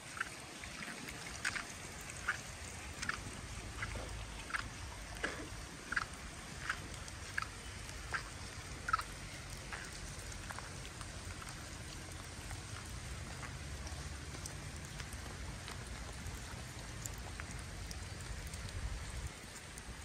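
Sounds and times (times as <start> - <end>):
rain on wet paving and grass: 0.0 - 20.0
raindrops ticking: 0.0 - 20.0.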